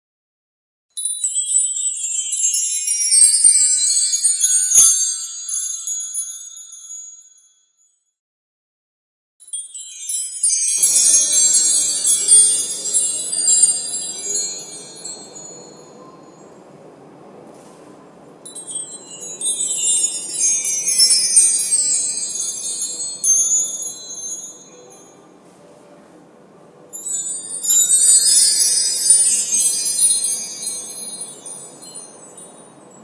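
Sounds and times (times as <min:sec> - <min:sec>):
wind chimes tinkling: 0:01.0 - 0:08.0, 0:09.4 - 0:16.7, 0:18.4 - 0:25.4, 0:26.8 - 0:33.0.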